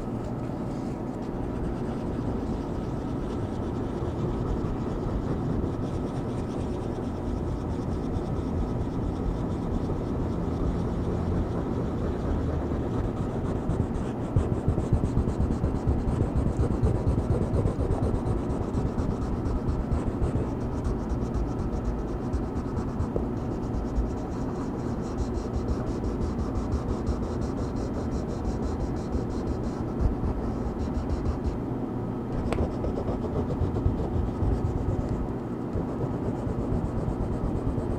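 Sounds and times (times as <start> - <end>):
coloring strokes scratching on paper: 0.7 - 31.6, 32.4 - 37.9.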